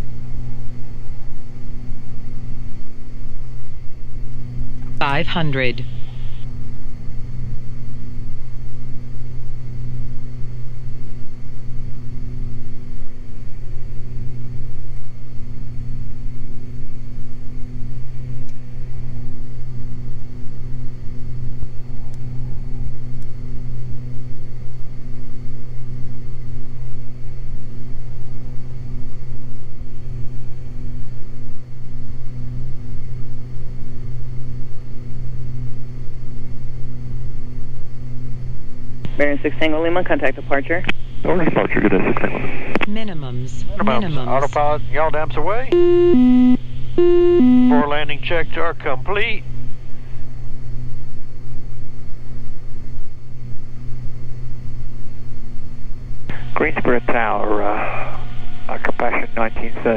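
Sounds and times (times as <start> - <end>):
propeller plane engines droning: 0.0 - 53.8, 54.7 - 59.9.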